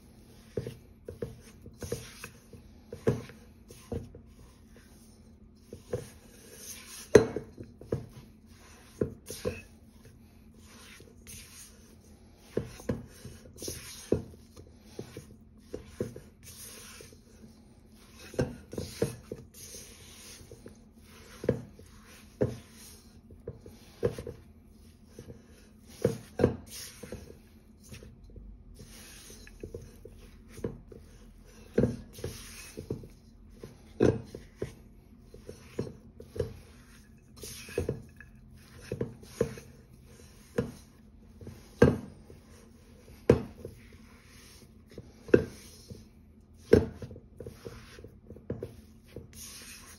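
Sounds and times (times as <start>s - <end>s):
spatula scraping metal bowl: 0.1s - 28.2s, 28.8s - 46.0s, 46.6s - 49.9s.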